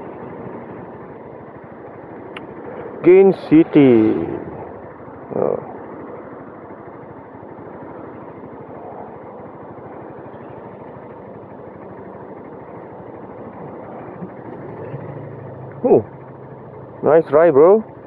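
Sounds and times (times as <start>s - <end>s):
motorcycle engine running low revs: 0.0s - 18.0s
surrounding traffic noise: 0.0s - 18.0s.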